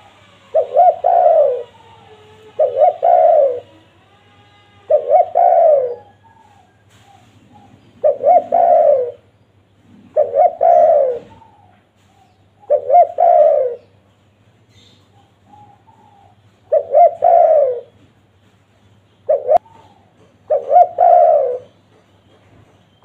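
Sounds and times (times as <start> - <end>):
dove cooing: 0.0 - 13.9, 15.4 - 18.0, 19.3 - 21.8.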